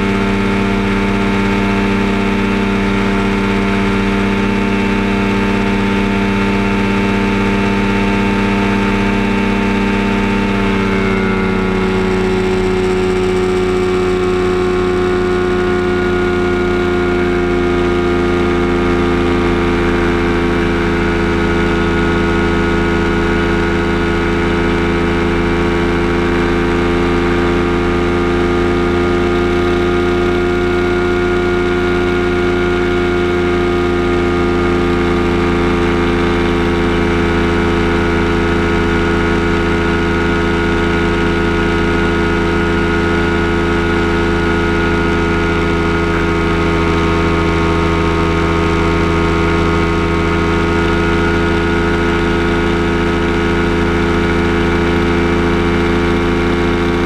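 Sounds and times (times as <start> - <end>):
ultralight engine and propeller: 0.0 - 57.0.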